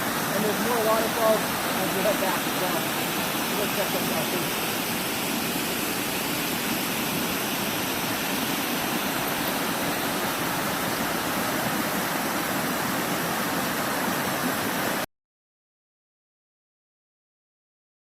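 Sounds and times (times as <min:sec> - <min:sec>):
water rushing over rock: 0:00.0 - 0:15.0.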